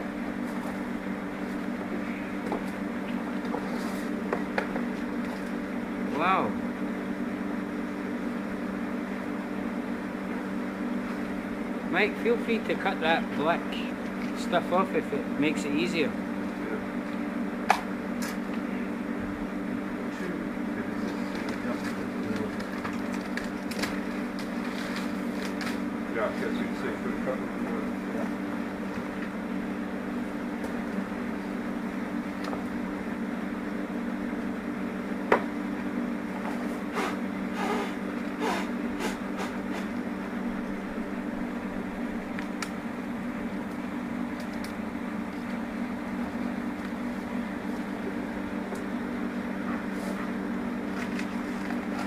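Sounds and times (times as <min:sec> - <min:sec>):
honeybee swarm humming: 0:00.0 - 0:52.0.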